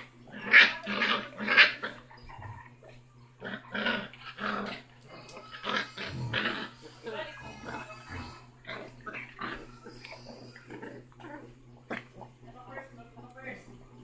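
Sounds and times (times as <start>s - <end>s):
puppy growling and yapping: 0.0s - 12.9s.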